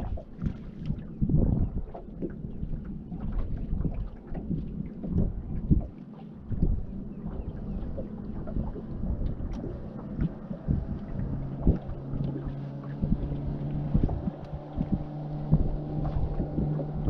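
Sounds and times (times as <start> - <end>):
small waves slapping a boat hull: 0.0 - 17.0
steady low hum: 0.0 - 17.0
wind buffeting microphone: 0.0 - 17.0.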